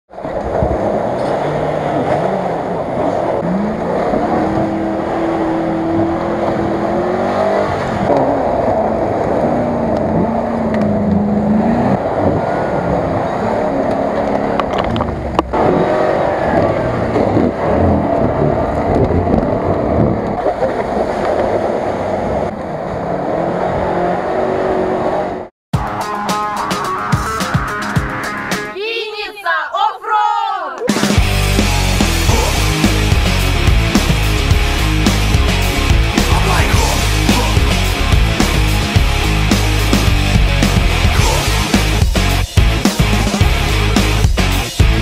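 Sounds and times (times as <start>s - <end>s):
off-road engines revving: 0.2s - 25.5s, 31.0s - 45.0s.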